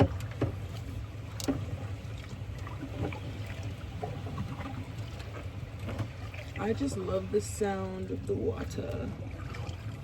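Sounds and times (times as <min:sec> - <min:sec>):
water trickling around kayak: 0:00.0 - 0:10.0.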